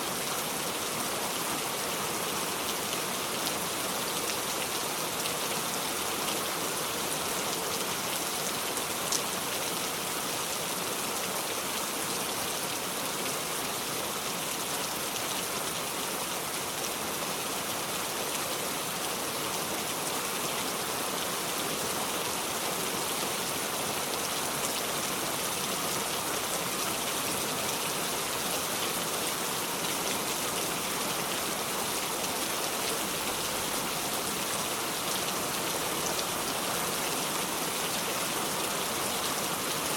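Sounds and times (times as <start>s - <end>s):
heavy rain on a surface: 0.0s - 39.9s.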